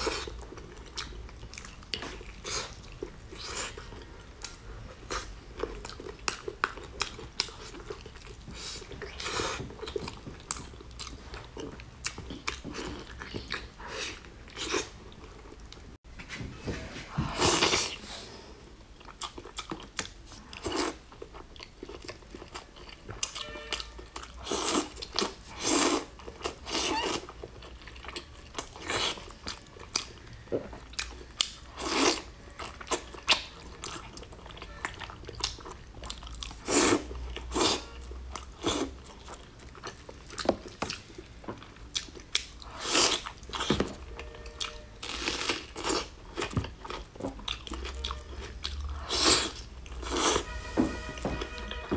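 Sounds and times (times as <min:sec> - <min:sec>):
wet chewing and smacking: 0:00.0 - 0:16.0, 0:19.0 - 0:50.4.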